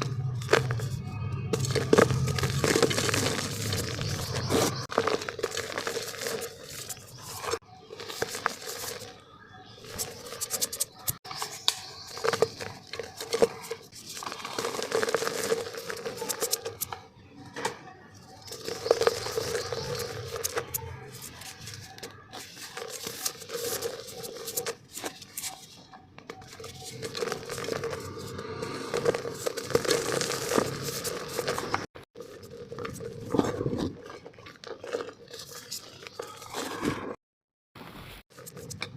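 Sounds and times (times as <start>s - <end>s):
dry dirt crunching in a clay pot: 0.0s - 17.1s, 18.1s - 37.1s, 38.3s - 38.9s.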